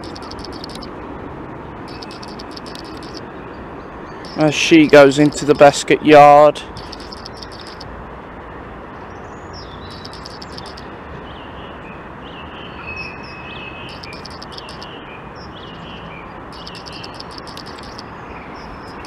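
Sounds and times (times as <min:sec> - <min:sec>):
small birds chirping and twittering: 0:00.0 - 0:00.9, 0:01.9 - 0:05.7, 0:06.7 - 0:07.8, 0:09.1 - 0:19.0.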